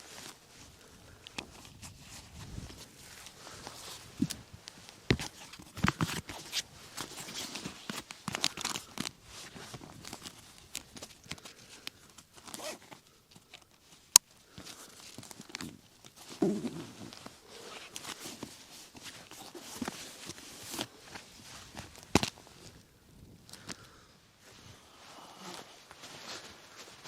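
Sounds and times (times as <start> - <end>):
camping gear rustling and crinkling: 0.0 - 27.0.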